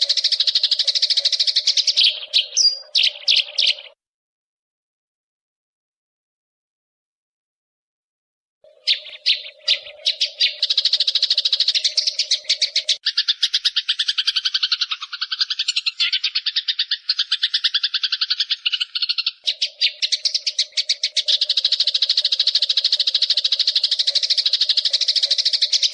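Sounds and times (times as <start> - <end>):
sparrows chattering harshly: 0.0 - 4.0, 8.6 - 25.9.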